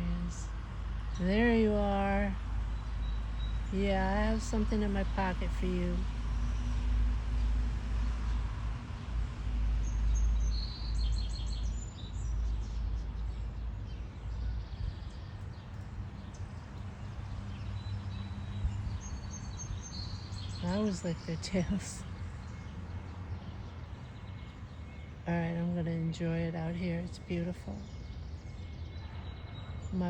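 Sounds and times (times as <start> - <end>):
small birds chirping: 0.0 - 8.5, 9.8 - 30.0.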